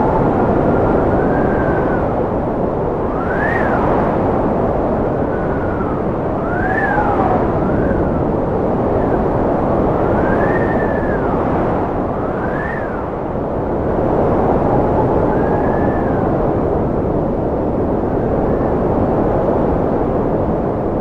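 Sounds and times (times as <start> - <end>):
high whistling wind howl: 0.0 - 21.0
strong wind rushing: 0.0 - 21.0.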